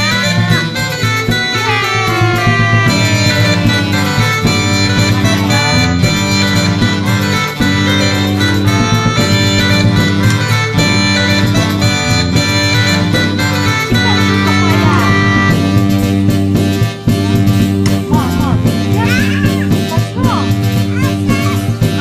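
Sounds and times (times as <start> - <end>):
upbeat country music: 0.0 - 22.0.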